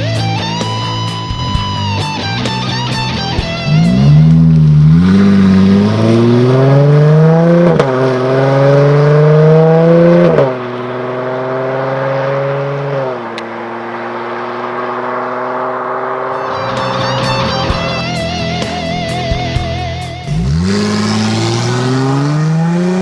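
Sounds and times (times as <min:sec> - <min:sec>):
car exhaust accelerating hard: 0:00.0 - 0:23.0.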